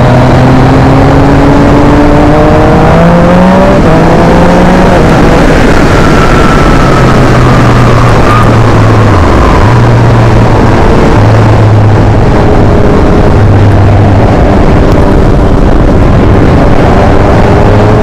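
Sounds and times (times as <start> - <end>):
motorcycle engine accelerating: 0.0 - 18.0
wind noise on microphone: 0.0 - 18.0.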